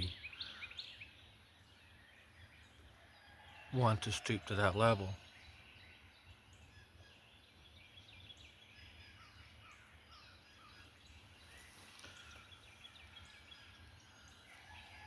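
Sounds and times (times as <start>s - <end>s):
bird chirps and calls: 0.0s - 15.0s.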